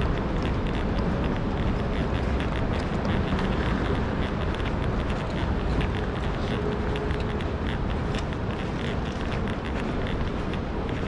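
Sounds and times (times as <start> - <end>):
footsteps on stone tiles: 0.0 - 11.0
low rumbling hall hum: 0.0 - 11.0.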